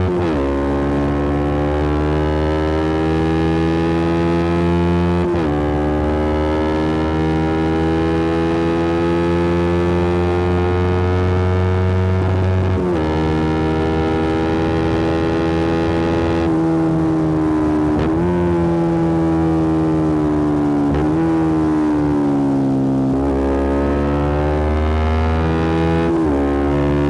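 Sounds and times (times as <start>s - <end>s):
motorcycle engine downshifting: 0.0s - 27.0s.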